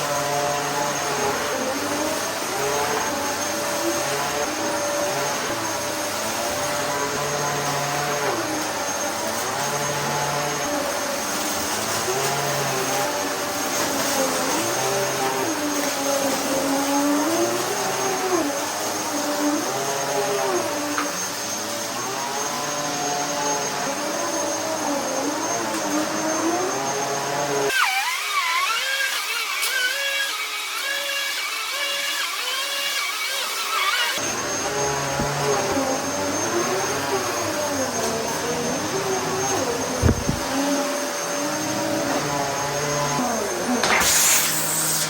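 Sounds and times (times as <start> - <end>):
vacuum cleaner motor whine: 0.0 - 45.0.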